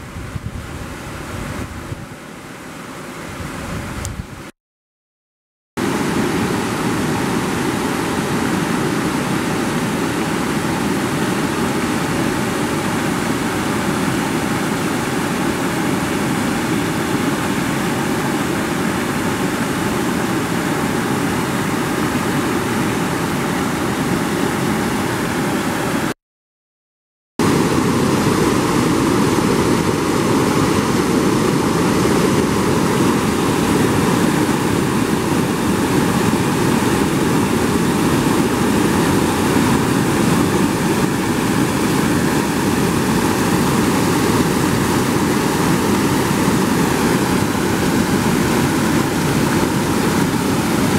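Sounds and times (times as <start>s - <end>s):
floodwater rushing: 5.8s - 26.1s, 27.4s - 50.9s.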